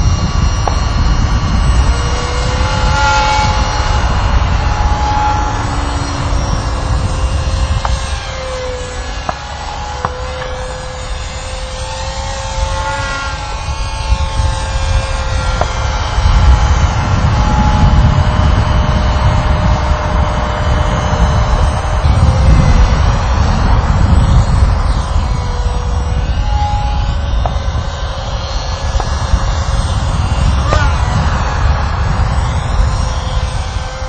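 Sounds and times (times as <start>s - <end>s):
model plane motor whining: 0.0s - 34.0s
wind rumble on microphone: 0.0s - 34.0s.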